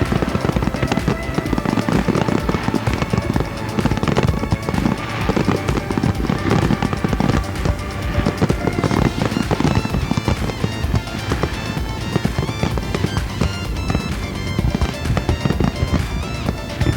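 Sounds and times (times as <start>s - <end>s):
fireworks bursting and crackling: 0.0s - 16.9s
music: 0.0s - 16.9s.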